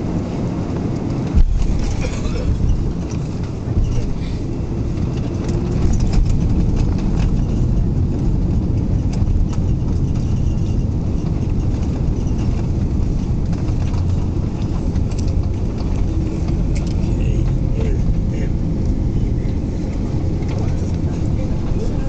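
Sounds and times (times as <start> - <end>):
airliner engines and wheels rumbling: 0.0 - 22.0.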